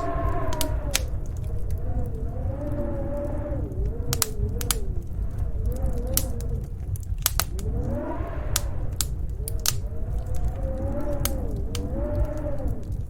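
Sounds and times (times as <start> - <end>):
howling snowstorm wind: 0.0 - 13.0
wood fire crackling and popping: 0.0 - 13.0.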